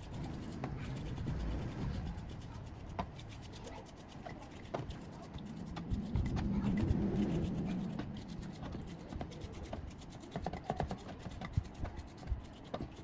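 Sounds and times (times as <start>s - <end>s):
hand scrubbing a part: 0.0s - 13.0s.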